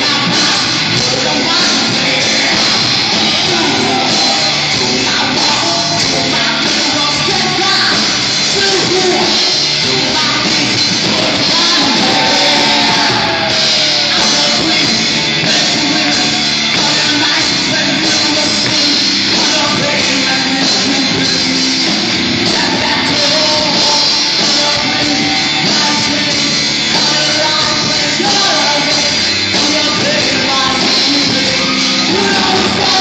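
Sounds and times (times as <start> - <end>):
live band music: 0.0 - 33.0
person singing: 0.0 - 33.0.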